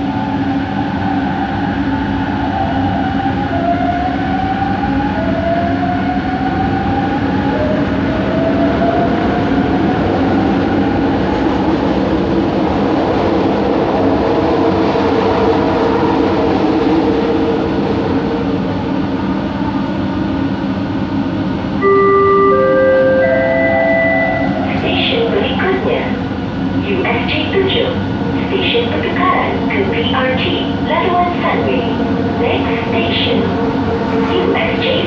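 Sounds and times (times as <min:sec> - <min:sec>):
train car and track rumble: 0:00.0 - 0:35.0.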